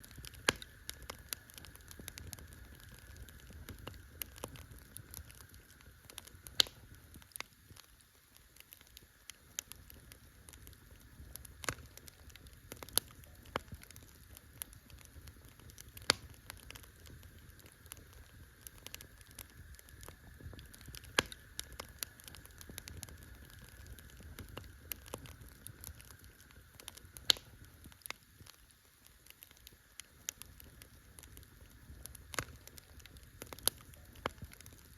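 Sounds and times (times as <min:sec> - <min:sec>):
campfire crackling: 0:00.0 - 0:34.9
fire pops and snaps: 0:00.0 - 0:34.9
low rumble of flames: 0:00.0 - 0:34.9.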